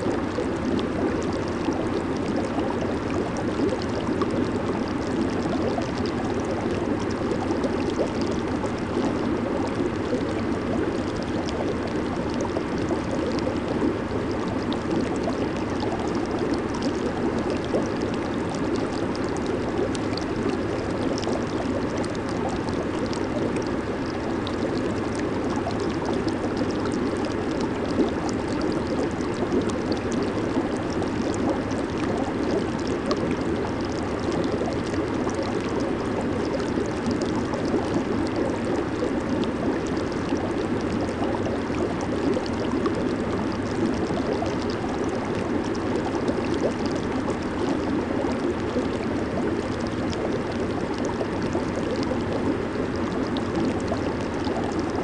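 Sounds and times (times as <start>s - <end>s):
bubbles bursting: 0.0s - 55.0s
jacuzzi water bubbling: 0.0s - 55.0s.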